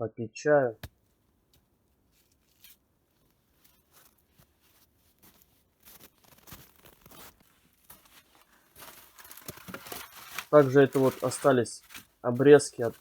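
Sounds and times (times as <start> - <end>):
faint rustling and crunching: 0.8 - 13.0.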